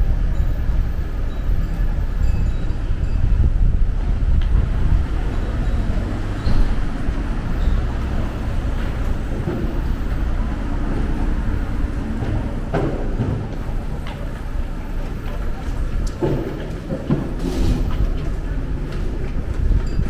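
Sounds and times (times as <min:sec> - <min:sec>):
city street noise: 0:00.0 - 0:20.0
wind buffeting microphone: 0:00.0 - 0:20.0.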